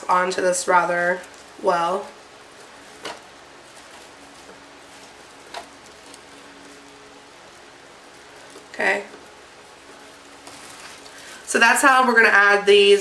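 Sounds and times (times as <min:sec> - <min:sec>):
plastic mesh rustling: 0:00.0 - 0:12.6
plastic crinkles: 0:00.0 - 0:13.0.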